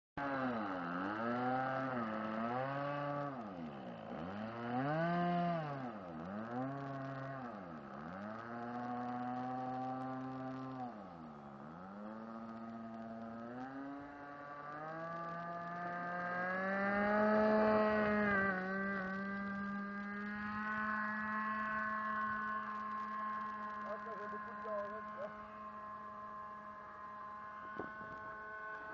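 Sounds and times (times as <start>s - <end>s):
model airplane engine: 0.2s - 28.9s.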